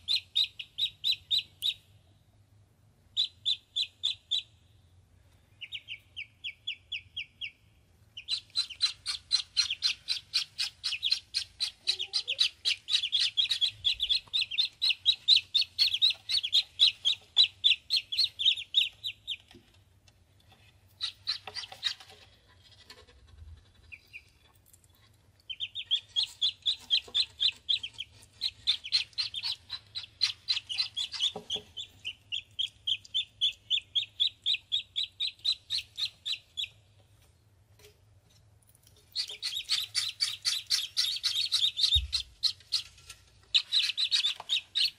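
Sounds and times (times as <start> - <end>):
ducklings peeping: 0.0 - 2.0, 3.1 - 4.8, 5.4 - 19.7, 20.9 - 22.4, 23.6 - 24.5, 25.4 - 37.0, 39.0 - 44.9.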